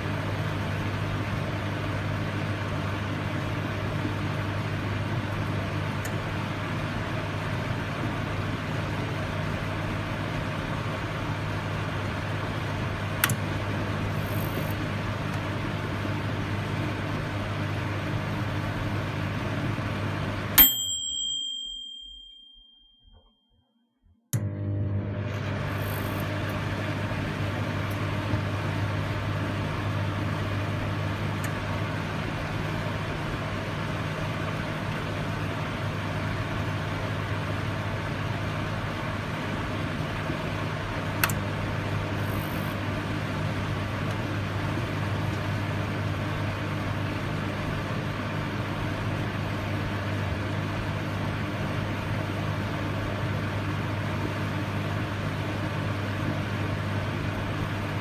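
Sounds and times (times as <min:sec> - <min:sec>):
microwave oven humming: 0:00.0 - 0:22.8, 0:24.3 - 0:58.0.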